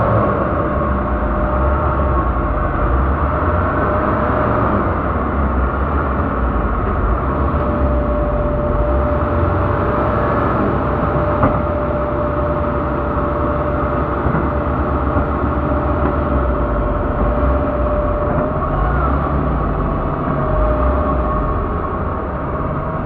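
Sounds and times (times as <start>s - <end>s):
diesel engine rumble: 0.0s - 23.0s
steady machine whine: 0.0s - 23.0s.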